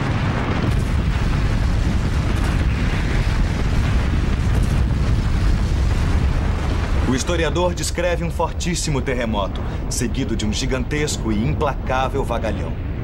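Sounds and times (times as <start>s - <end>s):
deep rumble: 0.0s - 13.0s.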